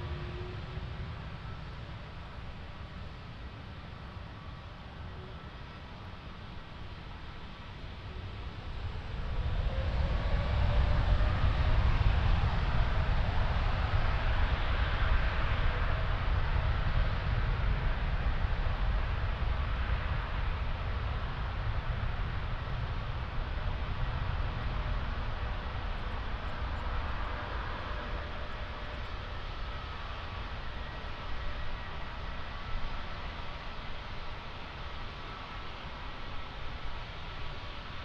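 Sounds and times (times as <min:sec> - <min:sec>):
jet engines roaring at takeoff: 0:00.0 - 0:38.0.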